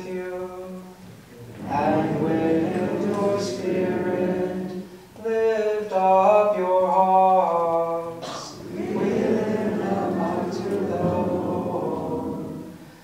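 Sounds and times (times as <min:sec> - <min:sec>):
priest chanting a prayer: 0:00.0 - 0:12.8.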